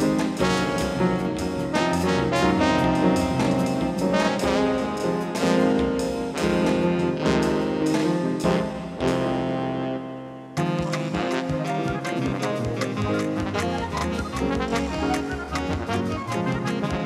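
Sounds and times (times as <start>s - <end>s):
synthesizer music with brass chords: 0.0s - 17.0s.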